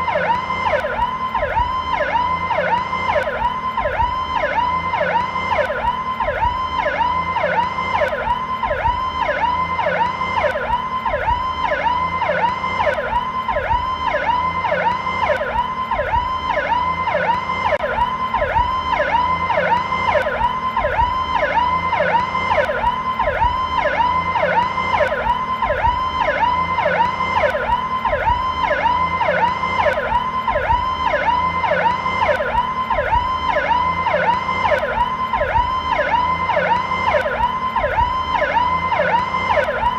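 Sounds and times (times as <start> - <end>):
police siren sweeping: 0.0 - 39.9.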